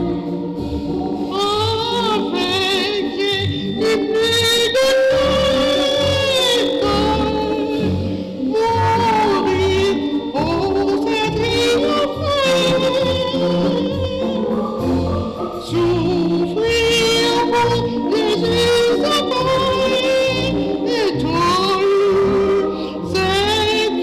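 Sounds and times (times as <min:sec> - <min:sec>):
low instrumental accompaniment: 0:00.0 - 0:24.0
woman singing into a microphone: 0:01.3 - 0:14.9, 0:15.5 - 0:24.0.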